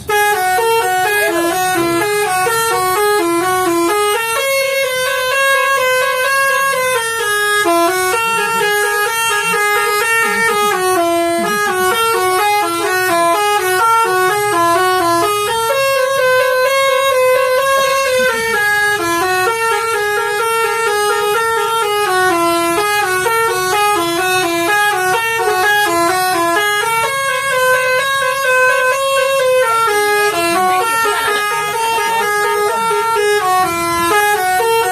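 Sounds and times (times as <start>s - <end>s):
bus musical horn playing a tune: 0.0s - 34.9s.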